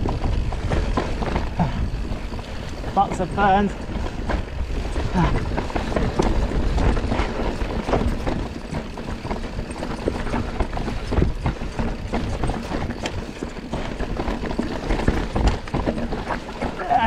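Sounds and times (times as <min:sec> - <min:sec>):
bike knocking and rattling: 0:00.0 - 0:17.0
bike tyres rolling on dirt: 0:00.0 - 0:17.0.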